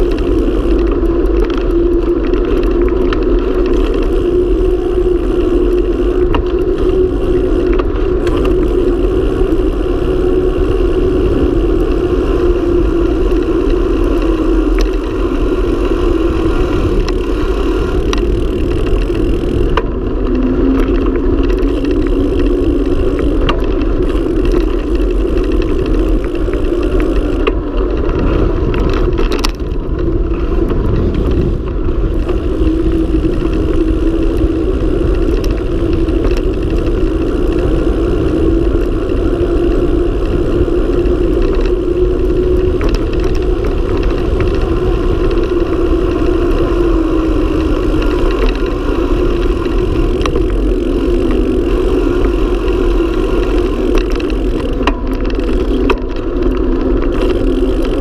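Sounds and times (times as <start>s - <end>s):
tyre noise on asphalt: 0.0s - 58.0s
wind rushing over microphone: 0.0s - 58.0s.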